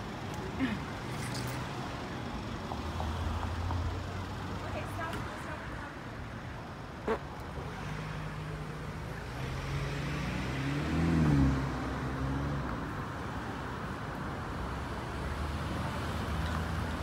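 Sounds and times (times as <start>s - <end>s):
background traffic noise: 0.0s - 17.0s.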